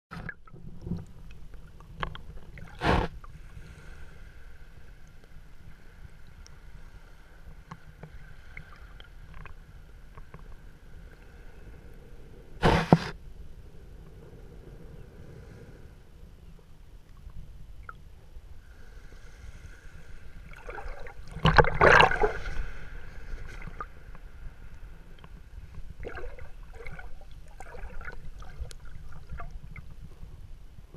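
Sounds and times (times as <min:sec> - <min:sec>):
muffled underwater rumble: 0:00.1 - 0:30.9
faint steady hum: 0:00.2 - 0:30.9.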